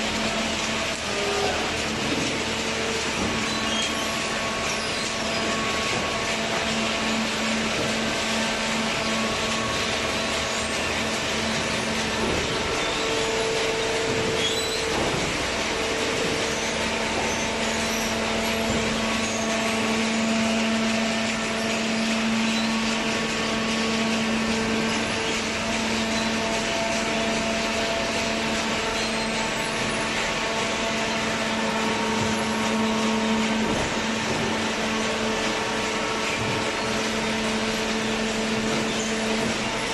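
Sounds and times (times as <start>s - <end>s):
electric motor and pump humming: 0.0s - 39.9s.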